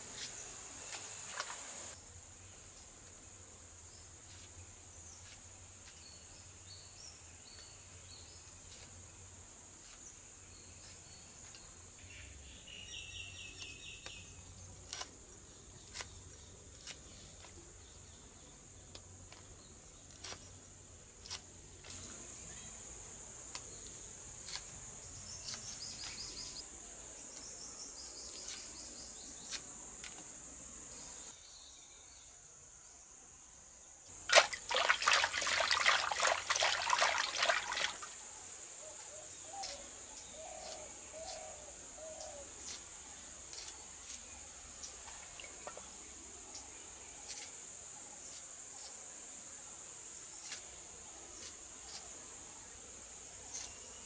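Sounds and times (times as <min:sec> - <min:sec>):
crickets chirring: 0:00.0 - 0:32.2, 0:33.7 - 0:54.0.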